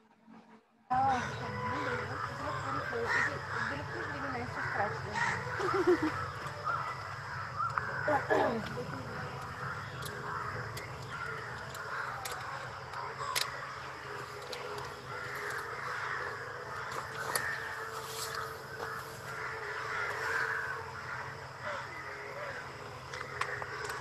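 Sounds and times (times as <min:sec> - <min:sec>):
crows cawing: 0:01.0 - 0:24.0.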